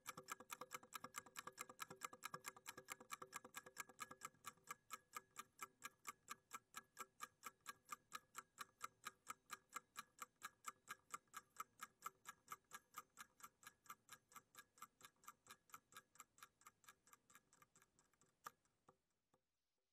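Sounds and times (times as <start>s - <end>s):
kitchen timer ticking: 0.0s - 18.7s.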